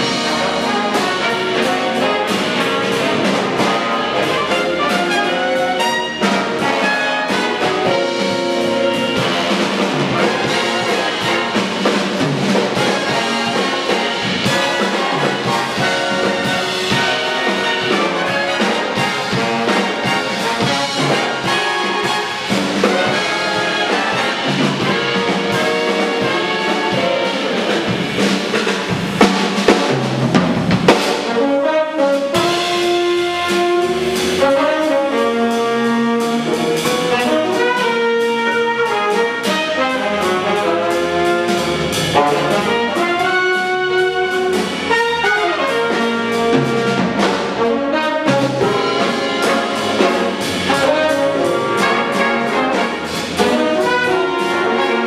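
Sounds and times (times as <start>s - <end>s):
drum kit cymbals and drums: 0.0s - 55.0s
jazz big band playing: 0.0s - 55.0s.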